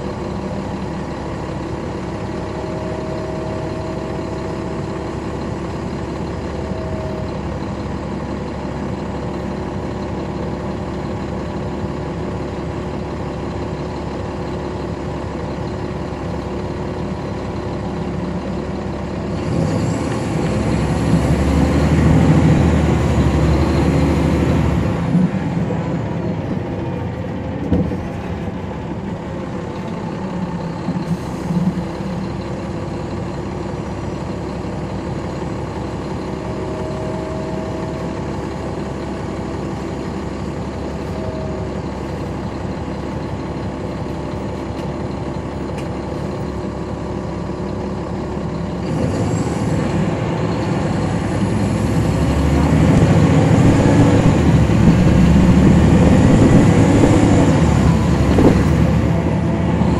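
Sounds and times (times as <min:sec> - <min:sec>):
diesel bus engine running: 0:00.0 - 0:59.9.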